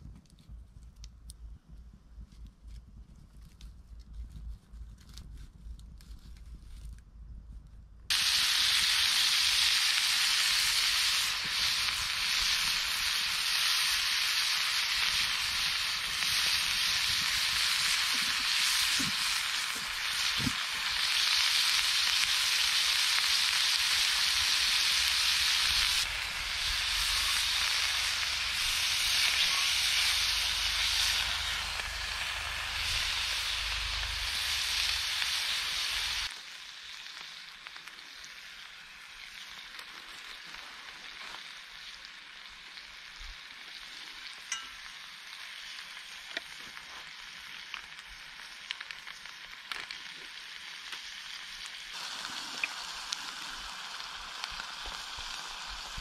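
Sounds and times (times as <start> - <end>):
burger patties sizzling: 8.1 - 56.0.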